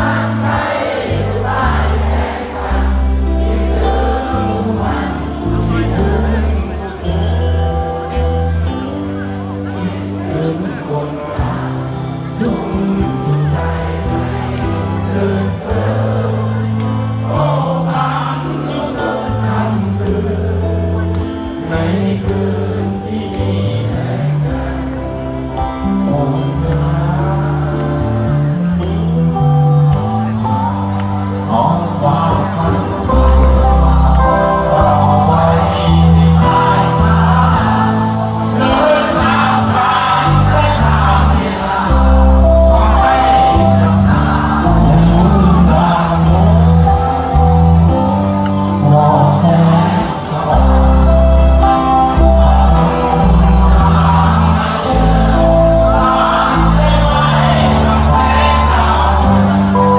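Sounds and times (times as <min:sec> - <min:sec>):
crowd singing along: 0:00.0 - 0:59.9
live band playing: 0:00.0 - 0:59.9.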